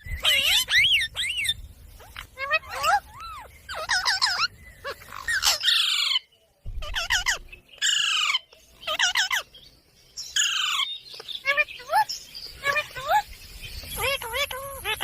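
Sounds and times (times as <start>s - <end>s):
parakeet squawking: 0.0s - 6.2s, 6.8s - 9.5s, 10.4s - 13.2s, 13.8s - 15.0s.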